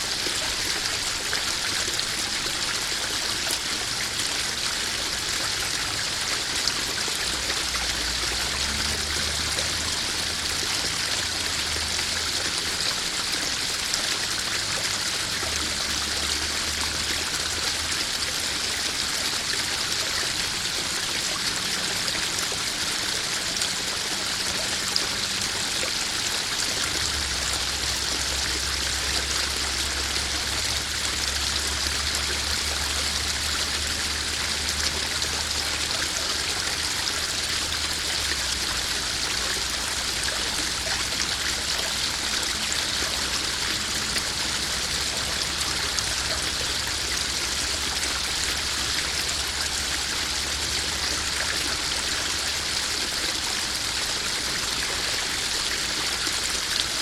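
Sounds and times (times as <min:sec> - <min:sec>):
waterfall splashing into pond: 0:00.0 - 0:57.0.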